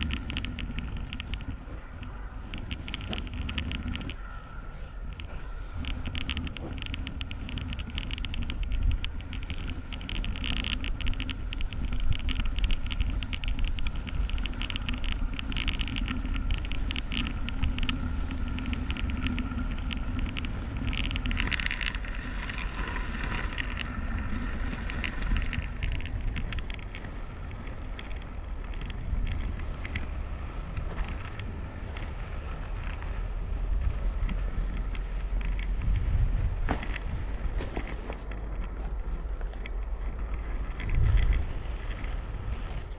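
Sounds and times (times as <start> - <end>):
steady rumble and hum: 0.0 - 42.9
twine crackling and scraping: 0.0 - 42.9.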